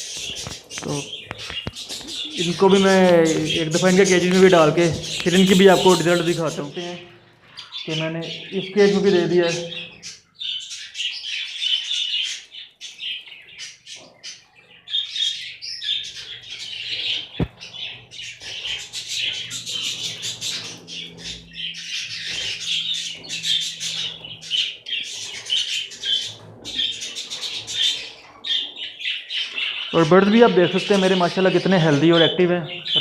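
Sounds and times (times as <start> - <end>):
budgerigars chattering and chirping: 0.0 - 33.0.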